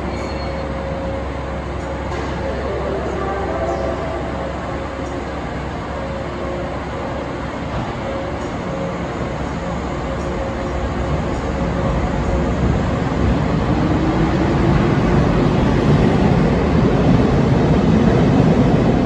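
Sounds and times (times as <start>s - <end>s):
train motors and wheels rumbling: 0.0s - 19.0s.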